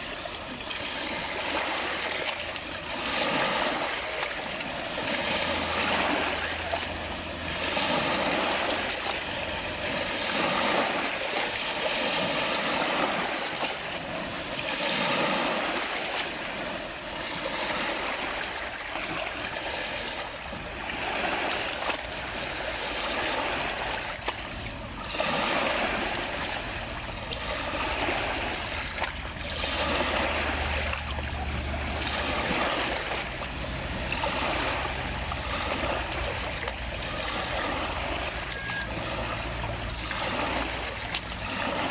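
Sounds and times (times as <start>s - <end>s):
lake waves lapping at shore: 0.0s - 41.9s.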